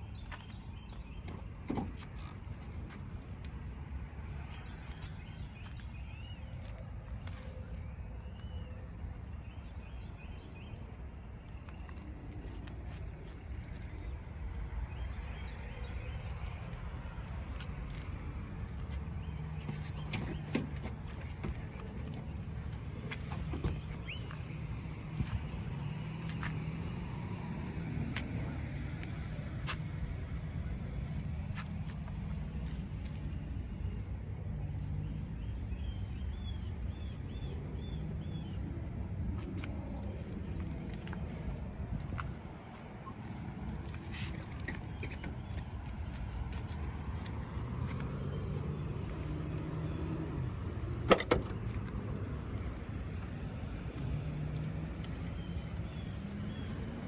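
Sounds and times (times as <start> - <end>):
diesel engine rumbling: 0.0 - 36.0, 37.3 - 57.0.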